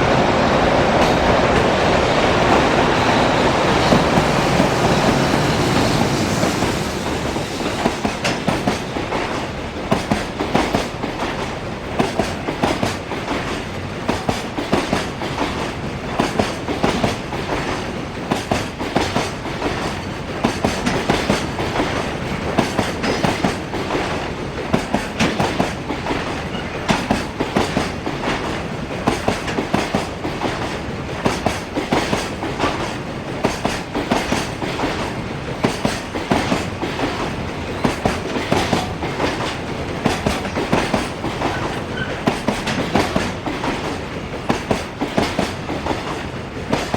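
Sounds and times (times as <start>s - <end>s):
freight train passing: 0.0s - 46.9s
wheels clacking over rail joints: 2.4s - 46.9s.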